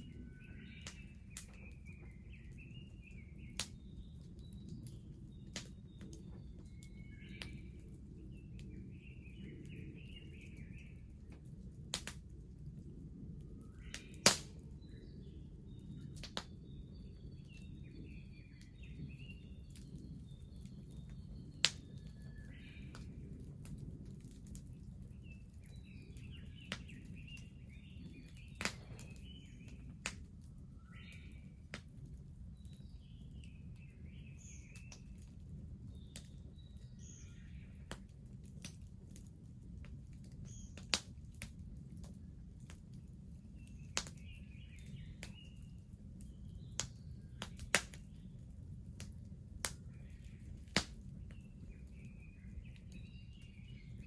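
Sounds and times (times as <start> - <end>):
bonfire crackling: 0.0 - 54.0
small birds chirping: 0.0 - 54.0.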